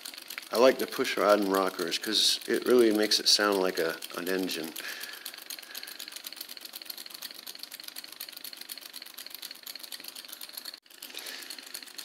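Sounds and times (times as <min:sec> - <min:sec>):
solenoid engine clicking rhythmically: 0:00.0 - 0:12.0.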